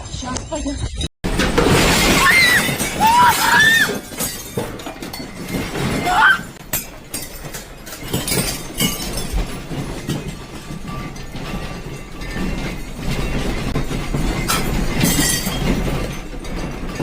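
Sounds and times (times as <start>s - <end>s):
loose objects rattling: 0.5s - 17.0s.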